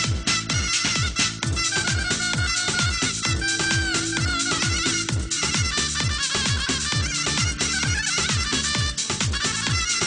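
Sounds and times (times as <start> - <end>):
band music with fast drum beat: 0.0 - 10.0.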